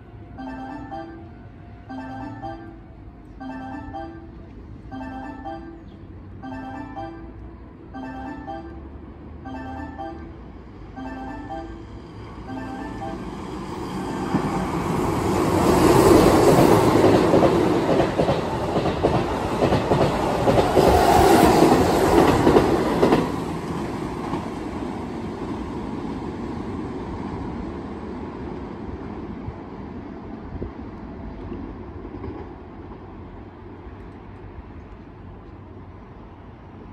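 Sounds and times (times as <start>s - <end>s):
electric train passing: 0.0s - 36.9s.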